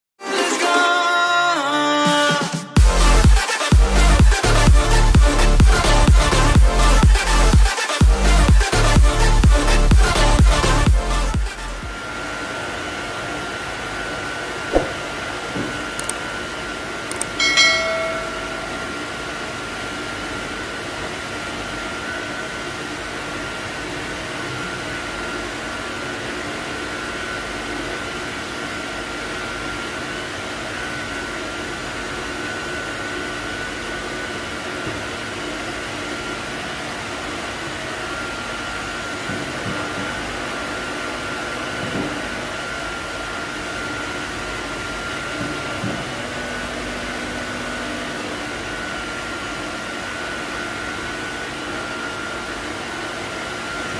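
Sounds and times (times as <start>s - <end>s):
blower whooshing and humming: 2.7s - 53.9s.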